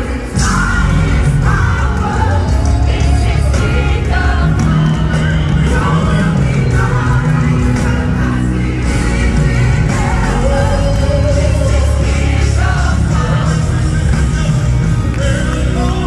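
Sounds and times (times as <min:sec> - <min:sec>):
crowd shouting: 0:00.0 - 0:13.6
band with bass and drums: 0:00.0 - 0:16.0
person singing: 0:00.0 - 0:16.0.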